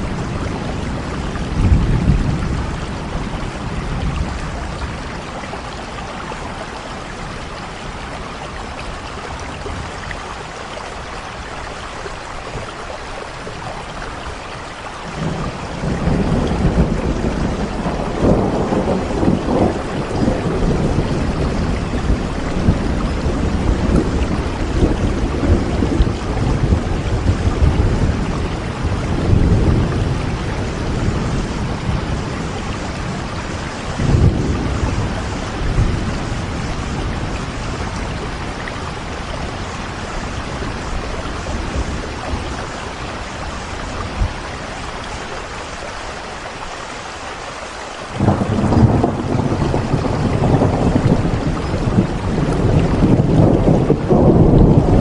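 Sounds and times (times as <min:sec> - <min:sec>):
thunder rumbling: 0:00.0 - 0:11.1, 0:15.1 - 0:45.5, 0:48.0 - 0:55.0
steady rain: 0:00.0 - 0:55.0.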